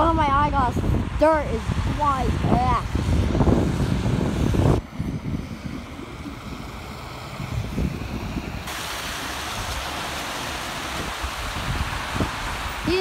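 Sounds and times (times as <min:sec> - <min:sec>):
low rumbling: 0:00.0 - 0:13.0
rain and wind hiss: 0:00.0 - 0:13.0.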